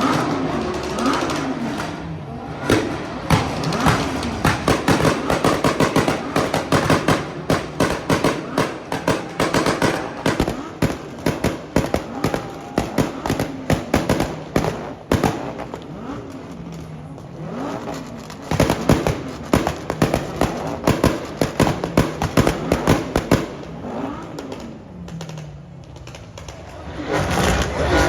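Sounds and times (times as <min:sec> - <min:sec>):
car engine idling: 0:00.0 - 0:26.8
car engine revving: 0:00.0 - 0:28.0
exhaust cracks and pops: 0:00.0 - 0:28.0.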